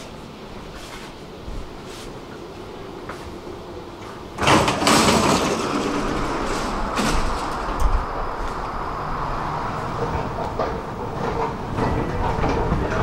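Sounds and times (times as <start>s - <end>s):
metro train rushing and rumbling: 0.0s - 13.0s.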